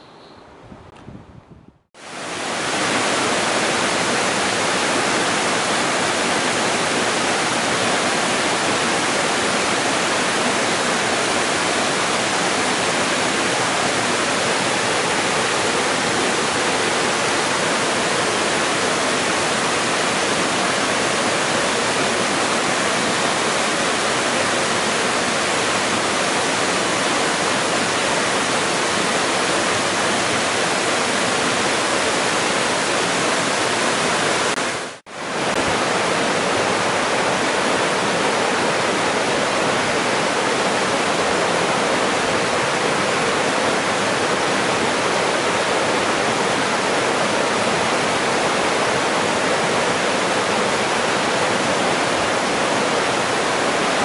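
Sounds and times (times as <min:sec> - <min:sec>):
white water rushing: 0:02.0 - 0:54.0.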